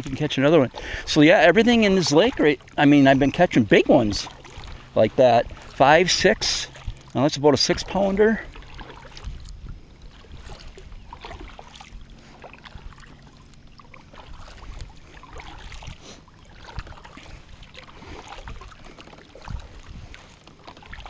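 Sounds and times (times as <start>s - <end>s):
kayak paddle strokes: 0.0s - 21.0s
water splashing and dripping: 0.0s - 21.0s.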